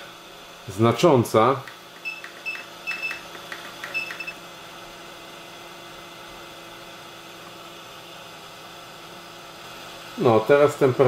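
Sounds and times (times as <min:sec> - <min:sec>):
hot-air gun fan whirring: 0:00.0 - 0:11.0.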